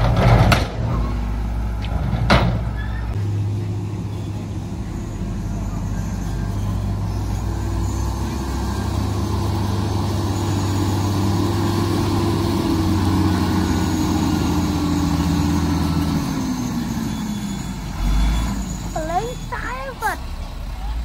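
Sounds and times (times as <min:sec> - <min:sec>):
heavy diesel truck engine: 0:00.0 - 0:21.0.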